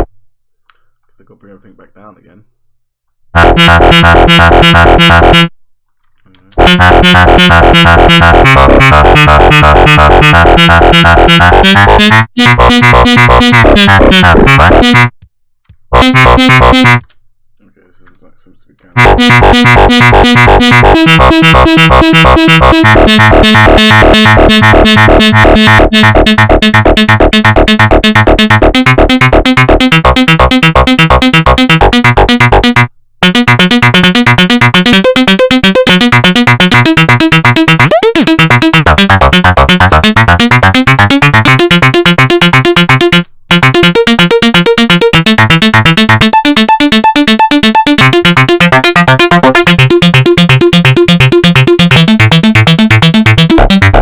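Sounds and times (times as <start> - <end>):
synthesizer arpeggio: 3.4 - 5.5, 6.6 - 15.1, 16.0 - 17.0, 19.0 - 54.0.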